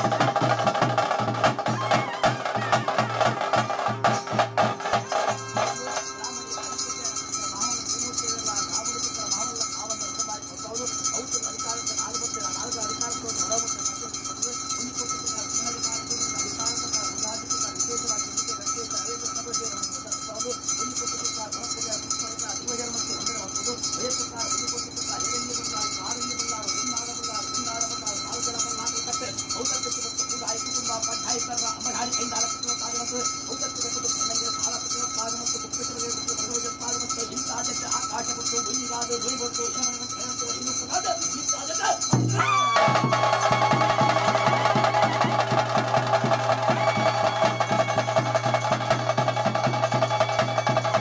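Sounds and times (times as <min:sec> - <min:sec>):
bells ringing and jingling: 0:00.0 - 0:51.0.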